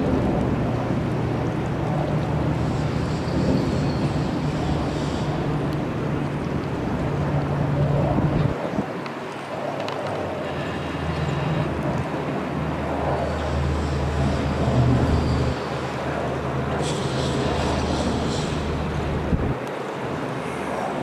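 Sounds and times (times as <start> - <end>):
boat engine drone: 0.0 - 21.0
water wash: 0.0 - 21.0
wind noise: 0.0 - 21.0.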